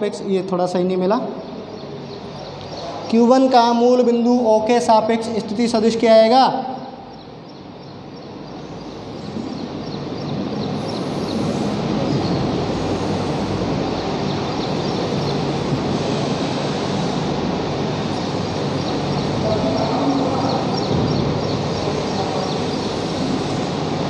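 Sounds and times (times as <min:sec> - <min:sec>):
rumbling mechanical noise: 0:00.0 - 0:24.0.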